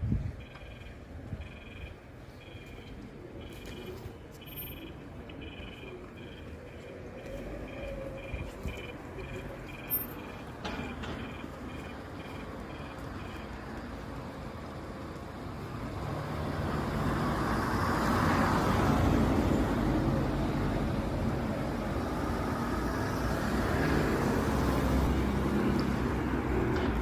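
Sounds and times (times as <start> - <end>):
traffic noise: 0.0 - 27.0
vehicle rumble and tyre noise: 0.0 - 27.0.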